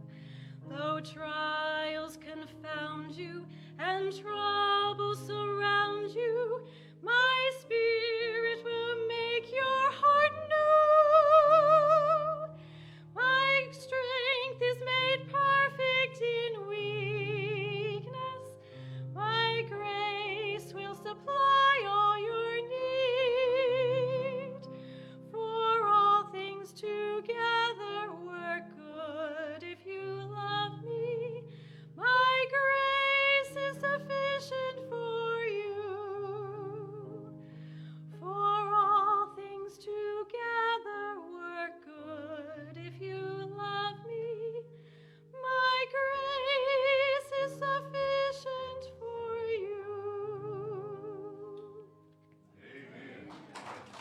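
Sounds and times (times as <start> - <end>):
woman singing a hymn: 0.6 - 37.3, 38.1 - 44.7, 45.3 - 51.9.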